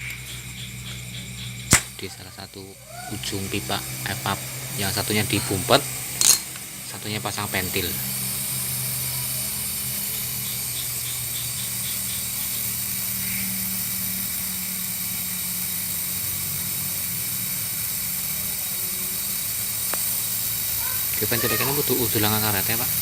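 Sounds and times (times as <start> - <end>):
compressed air hissing: 0.0 - 23.0.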